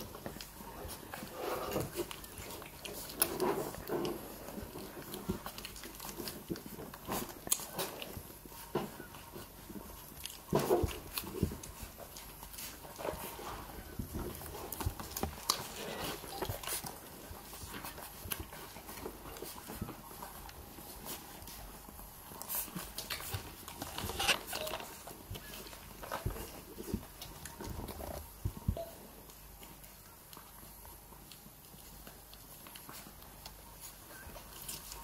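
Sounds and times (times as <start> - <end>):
puppies suckling wet smacking: 0.0 - 24.0, 29.2 - 35.0.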